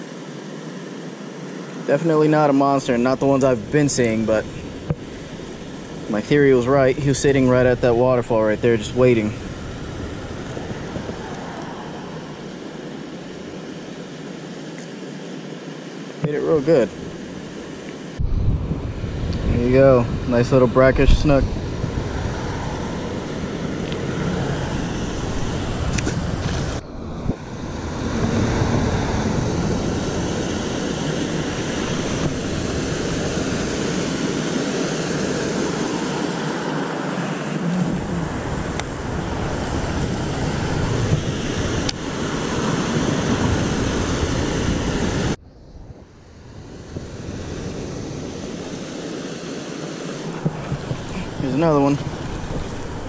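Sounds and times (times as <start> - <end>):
water rushing over weir: 0.0 - 45.4, 46.1 - 53.0
wind on microphone: 3.2 - 13.6, 18.2 - 49.5, 50.1 - 53.0.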